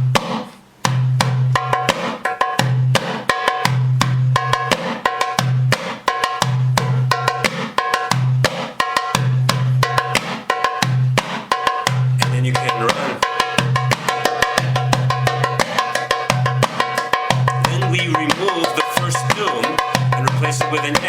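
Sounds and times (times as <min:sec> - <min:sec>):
hand drum rhythm: 0:00.0 - 0:21.0.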